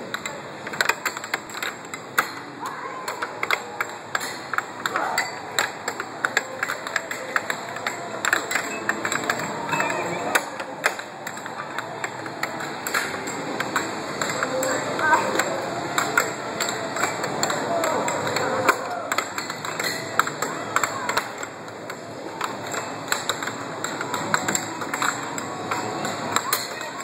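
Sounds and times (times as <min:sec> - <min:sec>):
air hockey puck hitting mallets: 0:00.0 - 0:27.0
background chatter: 0:00.0 - 0:27.0.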